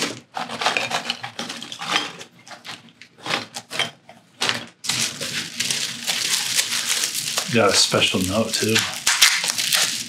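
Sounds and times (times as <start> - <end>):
cardboard box and packing peanuts rustling: 0.0 - 3.6, 4.4 - 10.0.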